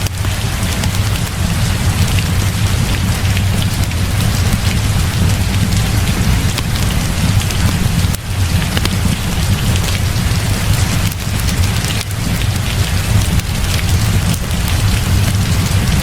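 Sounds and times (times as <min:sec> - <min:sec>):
deep rumble: 0:00.0 - 0:16.0
heavy rain falling: 0:00.0 - 0:16.0
small sharp ticks: 0:00.0 - 0:16.0.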